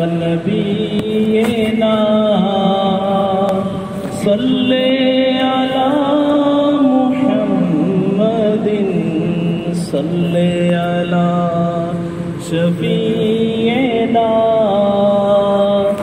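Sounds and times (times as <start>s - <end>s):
person chanting long notes: 0.0s - 16.0s
steady low hum: 0.0s - 16.0s.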